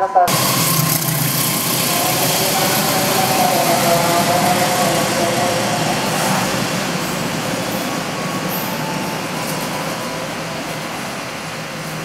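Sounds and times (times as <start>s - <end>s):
train wheels rumbling on track: 0.3s - 12.0s.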